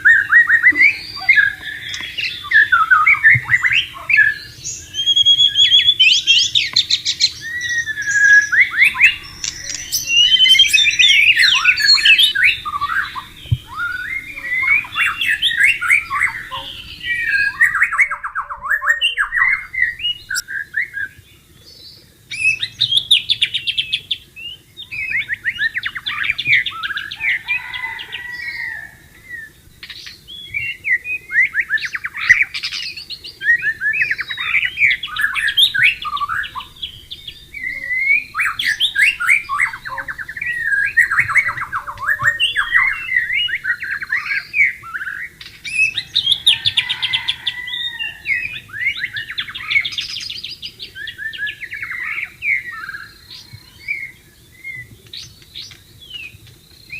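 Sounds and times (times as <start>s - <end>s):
bird singing varied song: 0.0s - 56.9s.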